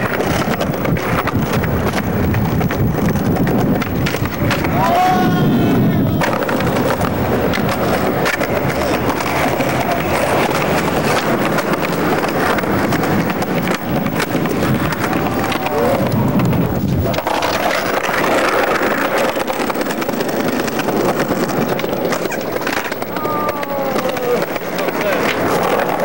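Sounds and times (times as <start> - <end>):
skateboard clacks: 0.0 - 26.0
skateboard wheels rolling on concrete: 0.0 - 26.0.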